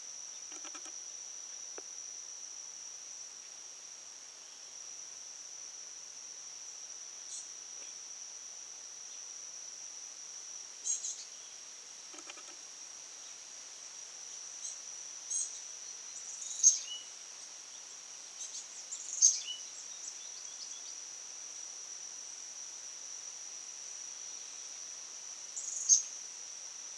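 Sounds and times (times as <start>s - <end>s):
high insect drone: 0.0s - 26.9s.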